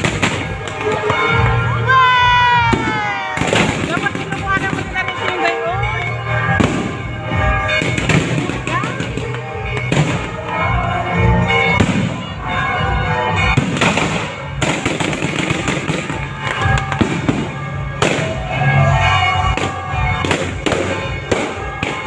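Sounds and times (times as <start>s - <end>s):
fireworks bangs: 0.0s - 1.6s, 2.4s - 5.6s, 6.5s - 10.5s, 11.8s - 12.5s, 13.4s - 22.0s
music: 0.0s - 22.0s.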